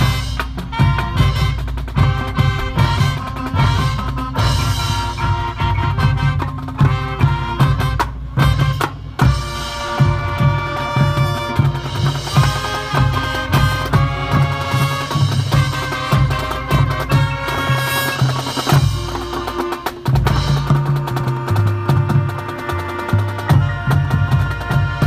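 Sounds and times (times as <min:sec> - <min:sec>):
brass holding chords: 0:00.0 - 0:25.0
steady drum beat: 0:00.0 - 0:25.0.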